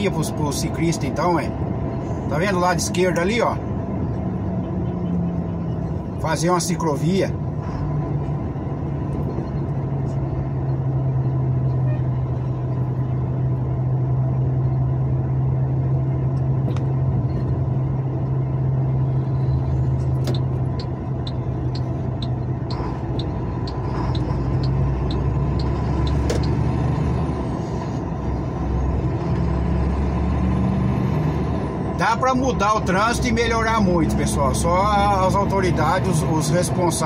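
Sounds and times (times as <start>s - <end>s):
vehicle engine and road noise: 0.0s - 37.0s.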